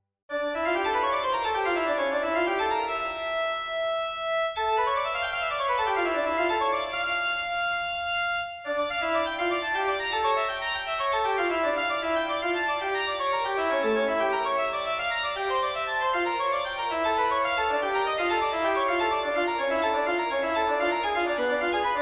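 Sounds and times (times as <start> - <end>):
organ-like keyboard music: 0.3 - 22.0.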